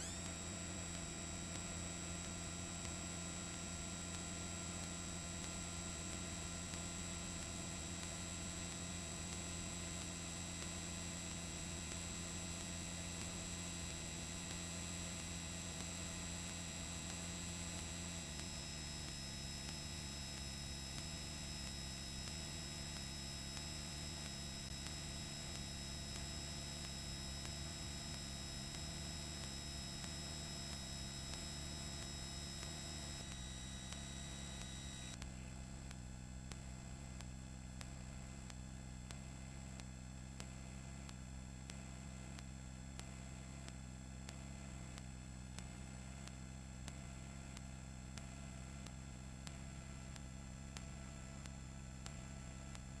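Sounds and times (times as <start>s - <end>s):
constant high-pitched tones: 0.0s - 52.9s
steady hum: 0.0s - 53.0s.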